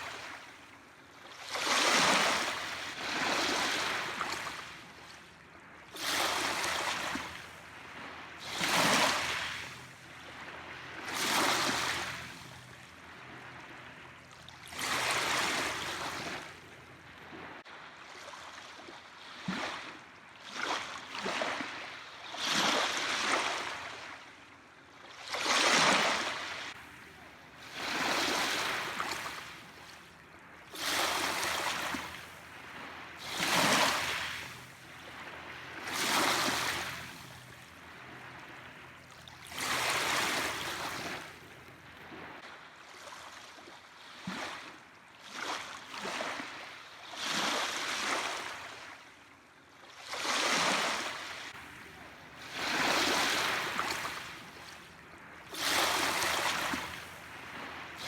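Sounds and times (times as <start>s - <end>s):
small waves washing onto shore: 0.0s - 24.2s, 25.1s - 49.1s, 49.9s - 58.0s.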